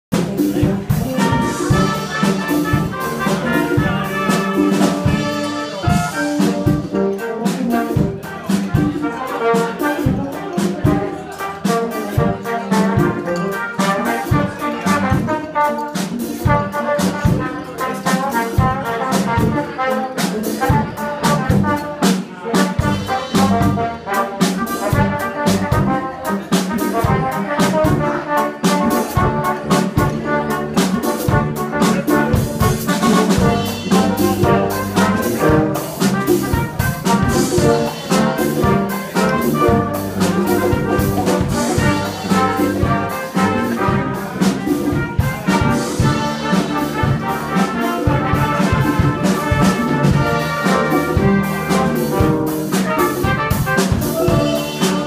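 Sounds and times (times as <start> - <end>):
brass band playing: 0.0 - 55.0
drums beating: 0.1 - 55.0.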